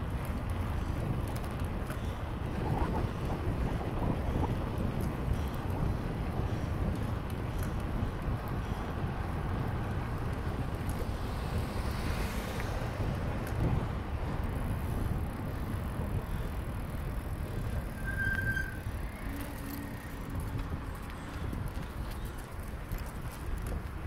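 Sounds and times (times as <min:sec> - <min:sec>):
bicycle tyre noise: 0:00.0 - 0:24.0
wind rumble on microphone: 0:00.0 - 0:24.0.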